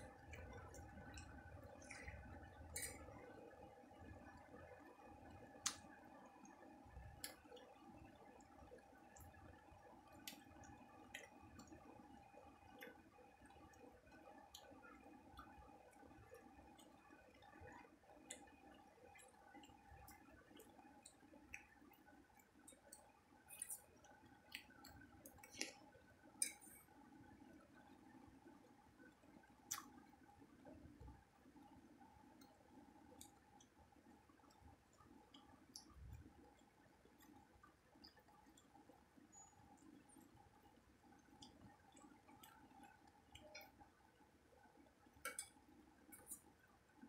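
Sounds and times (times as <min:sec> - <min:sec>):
wet chewing and mouth clicks: 0:00.0 - 0:26.8, 0:29.4 - 0:30.2, 0:31.0 - 0:44.0, 0:44.7 - 0:46.7
low background hum: 0:00.0 - 0:47.0.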